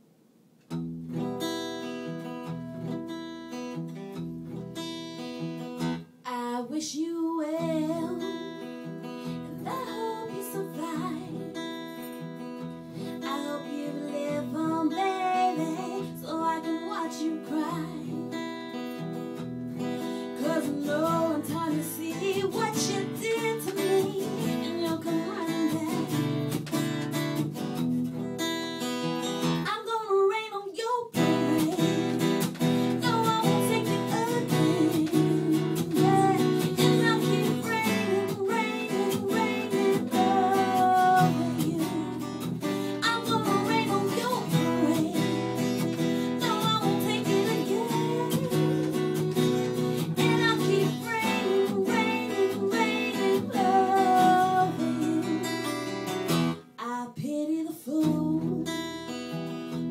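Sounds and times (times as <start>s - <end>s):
acoustic guitar strumming: 0.7s - 6.1s, 7.8s - 29.7s, 31.2s - 56.7s
woman singing: 6.2s - 12.2s, 13.0s - 18.8s, 19.8s - 27.2s, 29.6s - 59.4s.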